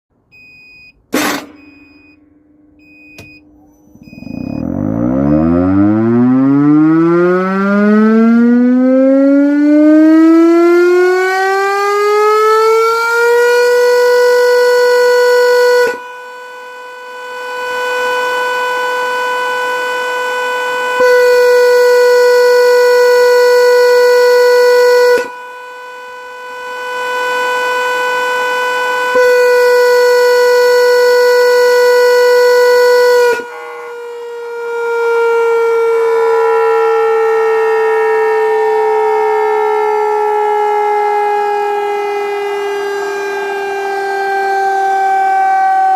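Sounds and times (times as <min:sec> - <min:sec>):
air raid siren winding up: 0:00.3 - 0:45.9.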